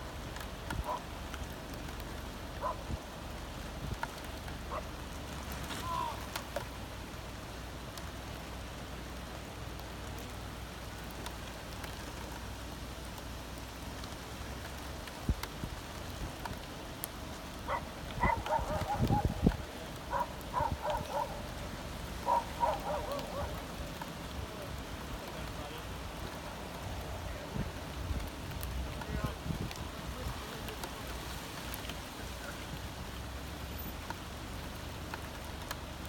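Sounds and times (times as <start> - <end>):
heavy rain hissing: 0.0 - 36.0.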